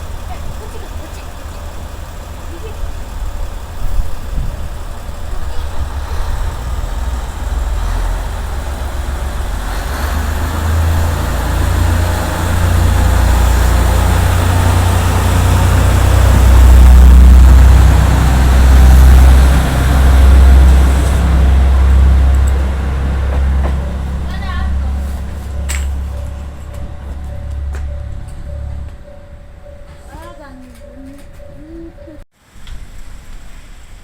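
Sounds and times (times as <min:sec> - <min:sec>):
heavy vehicle engine rumbling: 0:00.0 - 0:32.3.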